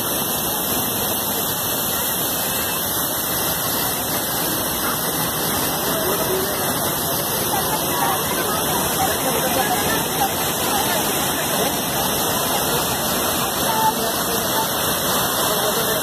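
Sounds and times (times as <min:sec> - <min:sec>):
stream rushing over boulders: 0:00.0 - 0:16.0.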